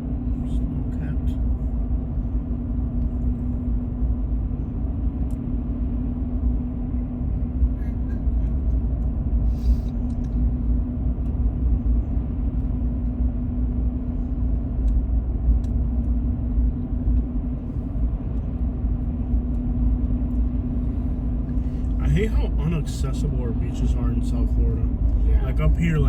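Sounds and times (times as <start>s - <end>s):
car interior road noise: 0.0s - 26.0s.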